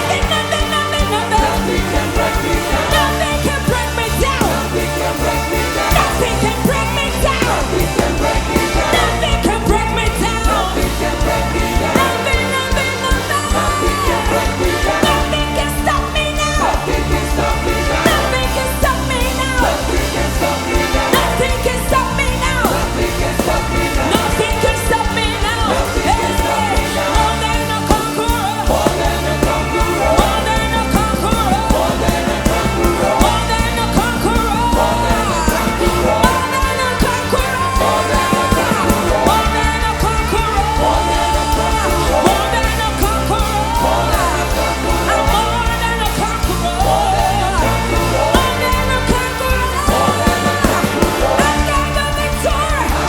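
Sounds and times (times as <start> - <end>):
band with steady bass: 0.0 - 53.0
person singing: 0.0 - 53.0.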